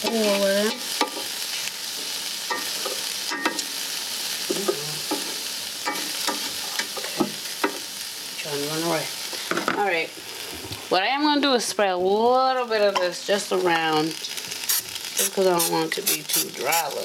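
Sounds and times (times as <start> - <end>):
shrimp sizzling on grill: 0.0 - 17.0.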